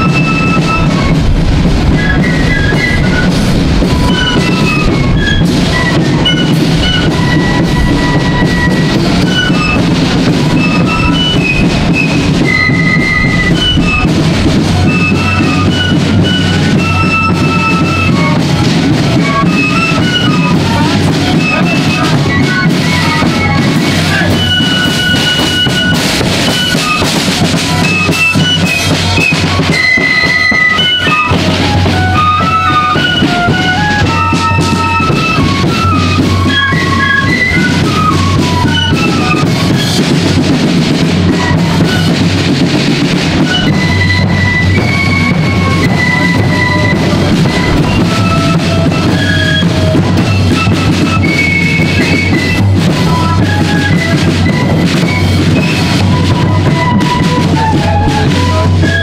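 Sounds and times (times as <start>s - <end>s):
bass drum march beat: 0.0s - 59.0s
flutes playing march tune: 0.0s - 59.0s
side drums: 0.0s - 59.0s.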